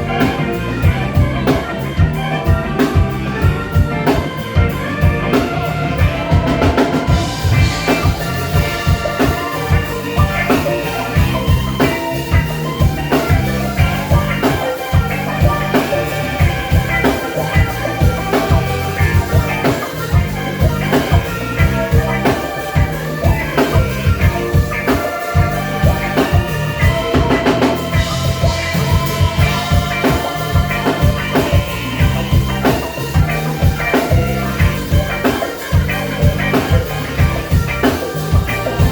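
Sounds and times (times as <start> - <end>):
live band playing: 0.0 - 38.9.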